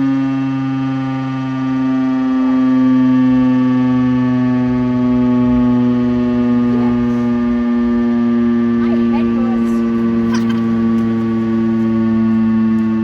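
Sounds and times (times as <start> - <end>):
siren steady tone: 0.0 - 13.0.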